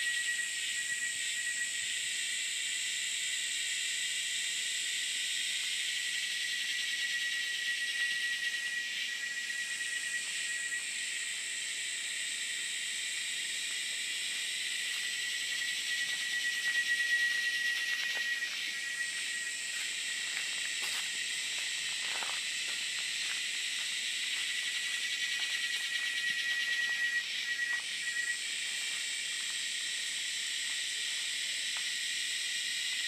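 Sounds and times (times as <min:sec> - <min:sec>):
insects droning high-pitched: 0:00.0 - 0:33.0.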